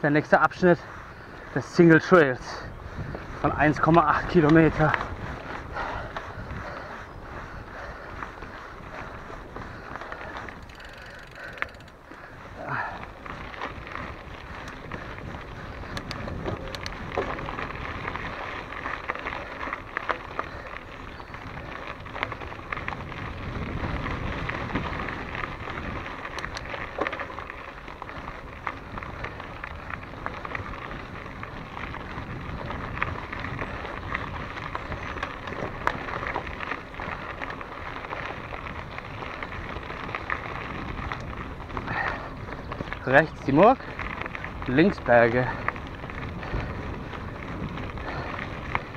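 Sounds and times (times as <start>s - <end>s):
bike rattles and clicks: 0.0s - 48.9s
bike tyres on dirt: 0.0s - 48.9s.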